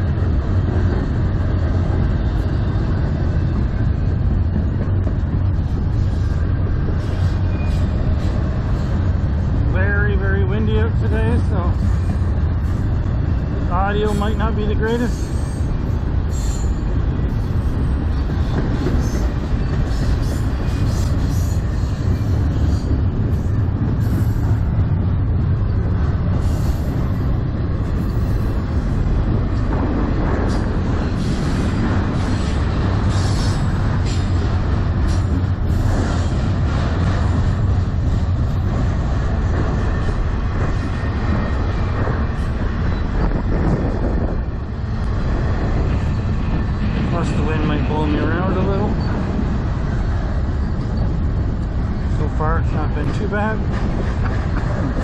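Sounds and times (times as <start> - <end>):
freight train wheels rumbling on rail: 0.0 - 55.0
wind buffeting microphone: 0.0 - 55.0.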